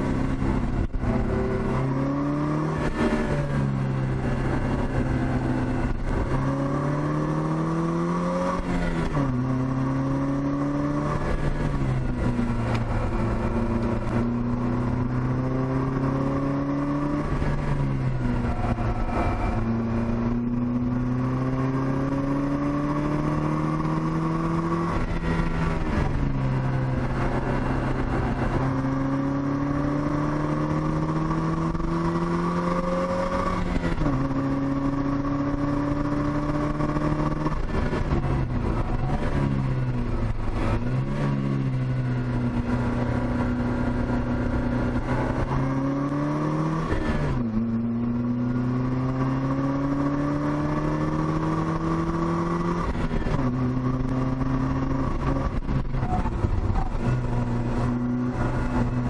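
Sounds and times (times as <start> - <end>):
car engine pulling under throttle: 0.0 - 59.0.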